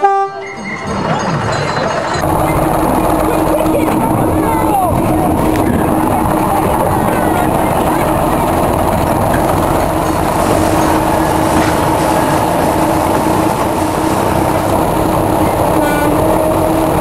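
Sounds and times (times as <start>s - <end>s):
train wheels rumbling on rail: 0.0s - 17.0s
constant hum: 1.9s - 17.0s.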